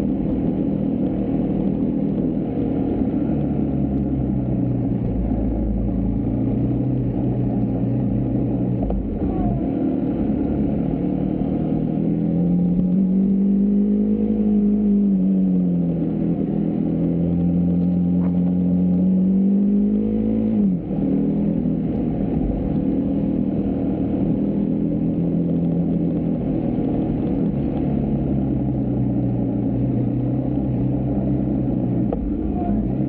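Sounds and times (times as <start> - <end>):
low wind rumble: 0.0 - 33.0.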